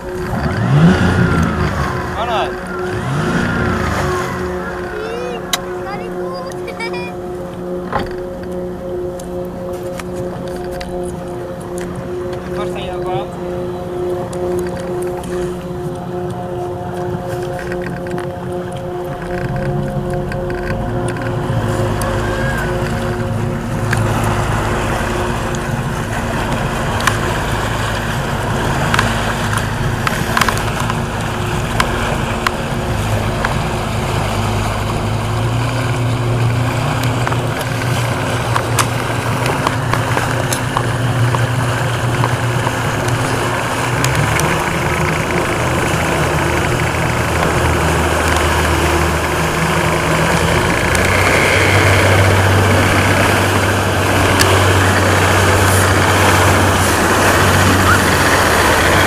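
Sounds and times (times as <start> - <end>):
boat engine running: 0.0 - 59.0
water rushing under boat: 0.0 - 59.0.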